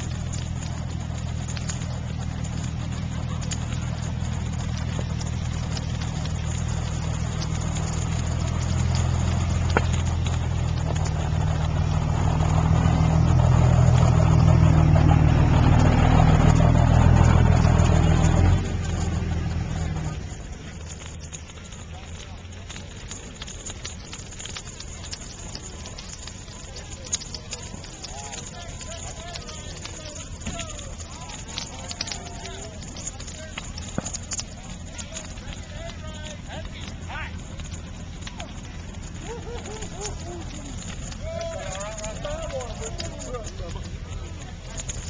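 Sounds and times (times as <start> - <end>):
bonfire crackling and popping: 0.0 - 45.0
distant crowd voices: 0.0 - 45.0
engine running: 0.0 - 45.0.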